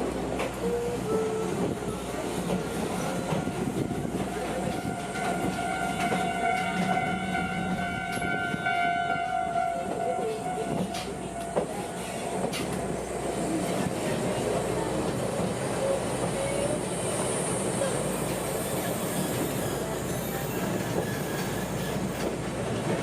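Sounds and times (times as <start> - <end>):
train wheels rumbling and clicking: 0.0 - 23.0.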